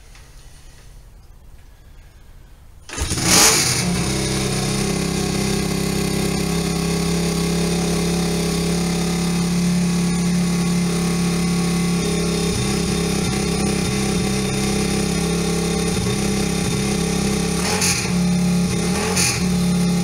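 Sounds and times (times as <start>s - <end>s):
motorcycle engine starting and idling: 2.8s - 20.0s.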